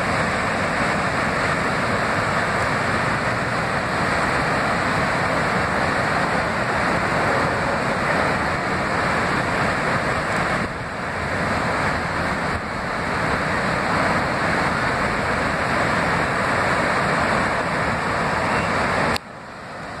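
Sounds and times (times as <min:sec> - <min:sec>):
flooded river rushing: 0:00.0 - 0:20.0.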